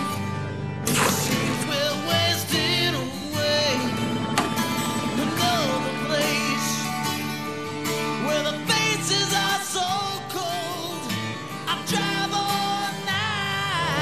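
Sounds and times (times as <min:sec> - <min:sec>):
country song with guitar and singing: 0:00.0 - 0:14.0.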